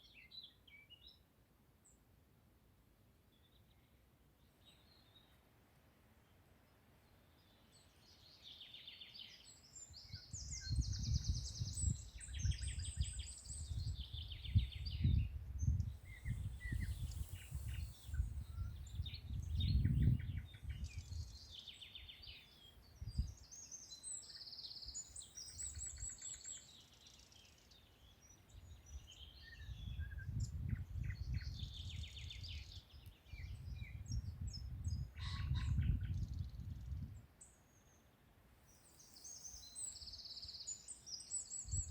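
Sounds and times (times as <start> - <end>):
songbirds singing and chirping: 0.0 - 2.1, 3.2 - 5.5, 6.2 - 41.9.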